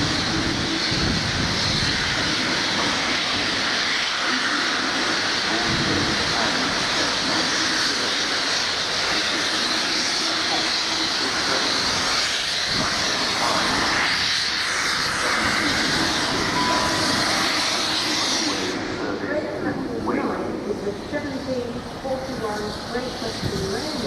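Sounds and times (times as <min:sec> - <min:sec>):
diesel locomotive engine: 0:00.0 - 0:24.0
steam hissing rush: 0:00.0 - 0:24.0.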